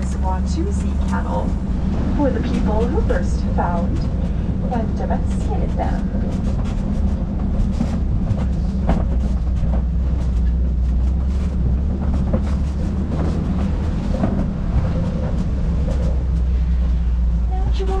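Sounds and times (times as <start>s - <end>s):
truck engine rumble: 0.0s - 18.0s
vehicle knocks and rattles: 0.0s - 18.0s.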